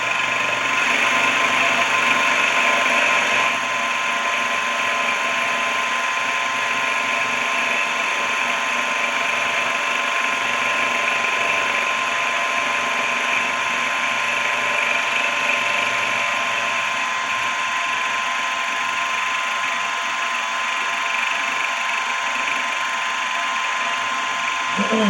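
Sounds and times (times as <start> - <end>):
benchtop machine tool motor whine: 0.0 - 25.0.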